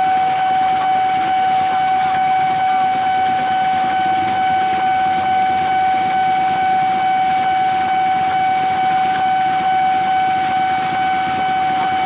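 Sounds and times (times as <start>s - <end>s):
level crossing alarm tone: 0.0s - 12.0s.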